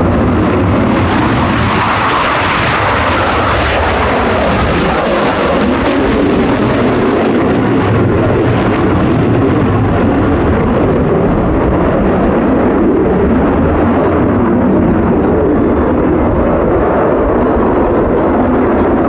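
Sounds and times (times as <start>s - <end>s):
fighter jet engine roar: 0.0s - 19.0s.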